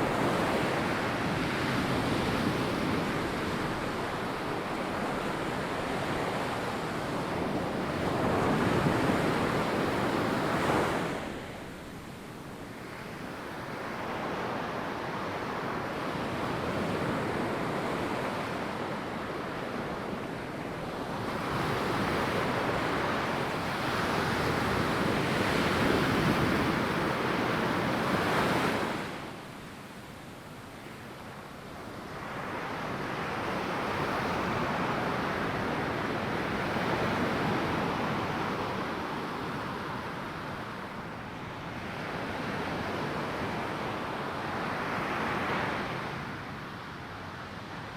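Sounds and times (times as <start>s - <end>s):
ocean waves breaking on beach: 0.0s - 47.9s.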